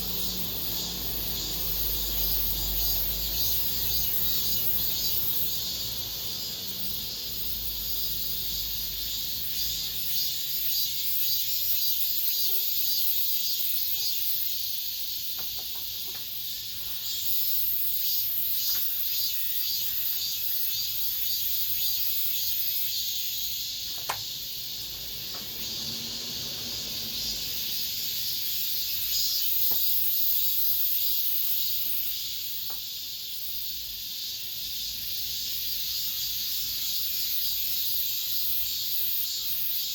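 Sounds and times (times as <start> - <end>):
cicadas buzzing in chorus: 0.0 - 39.9.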